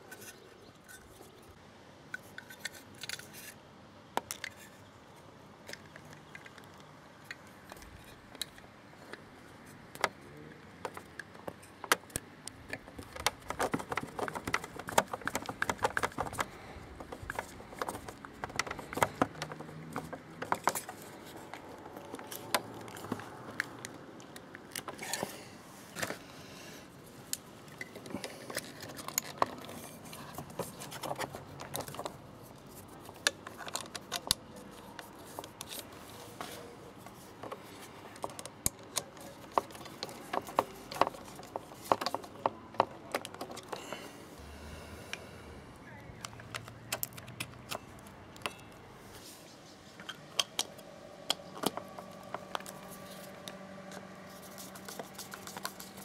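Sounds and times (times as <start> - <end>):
plastic and metal parts handled: 0.0 - 3.6, 4.2 - 44.3, 46.1 - 49.4, 50.0 - 56.0.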